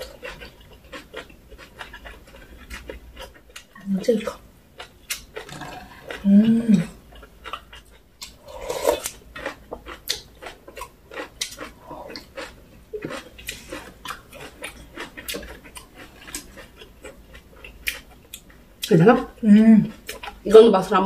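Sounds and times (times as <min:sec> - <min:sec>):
wet chewing and mouth smacks: 0:00.0 - 0:03.8, 0:04.8 - 0:06.2, 0:06.8 - 0:18.9, 0:19.9 - 0:20.4.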